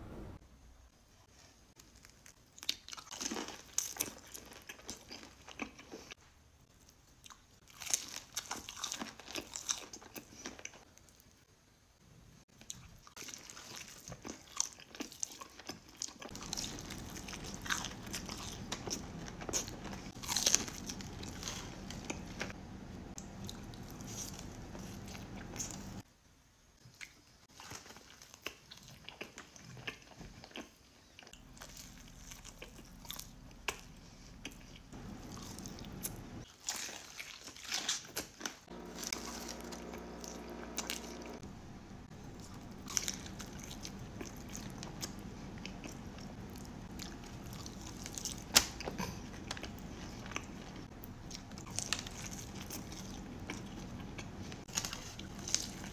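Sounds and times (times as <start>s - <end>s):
chewing: 1.8s - 6.2s, 6.8s - 11.4s, 12.5s - 26.0s, 26.8s - 55.9s
crunching fried chicken: 1.8s - 6.2s, 6.8s - 11.3s, 12.5s - 26.0s, 26.9s - 55.9s.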